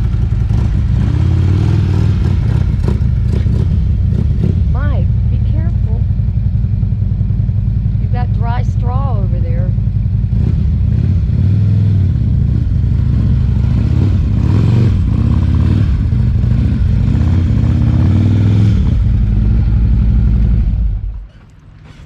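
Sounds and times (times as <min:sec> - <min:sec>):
motorcycle engine running and revving: 0:00.0 - 0:22.0.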